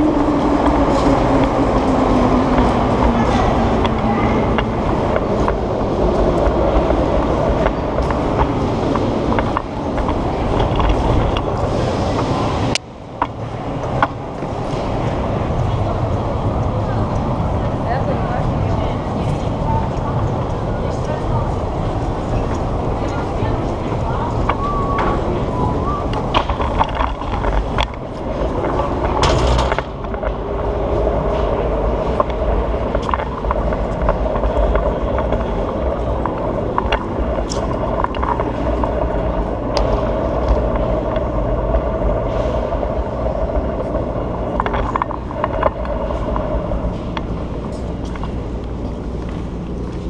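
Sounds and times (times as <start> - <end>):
scooter wheels rumbling on stone floor: 0.0 - 50.0.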